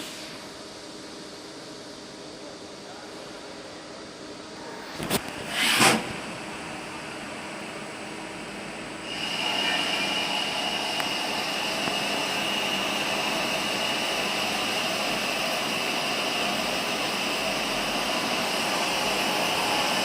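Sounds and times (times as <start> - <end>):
lathe high whine over hiss: 0.0 - 20.0.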